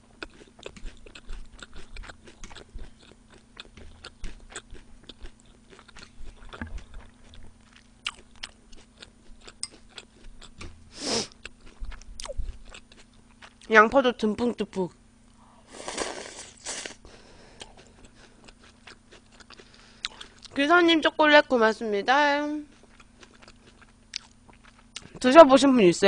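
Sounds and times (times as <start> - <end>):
chewing with small crunches: 0.0 - 13.9, 15.8 - 20.7, 22.6 - 25.3.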